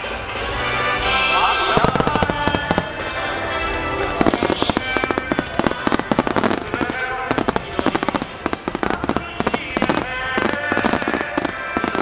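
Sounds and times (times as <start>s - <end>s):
music playing: 0.0s - 12.0s
fireworks bangs and crackles: 1.6s - 12.0s.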